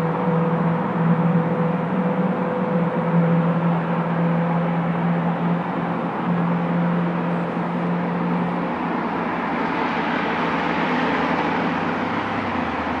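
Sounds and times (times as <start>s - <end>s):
car exhaust drone: 0.0s - 13.0s
road noise: 0.0s - 13.0s.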